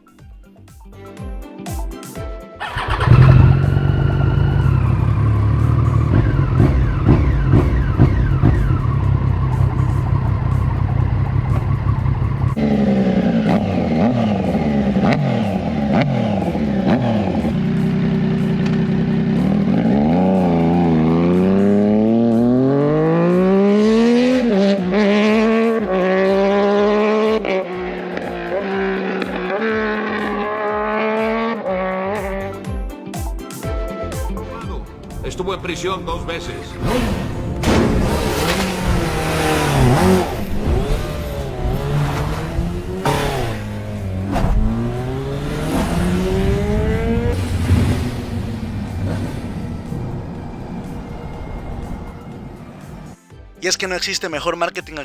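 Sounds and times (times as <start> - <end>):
motorcycle engine revving: 2.6 - 32.6, 35.5 - 53.2.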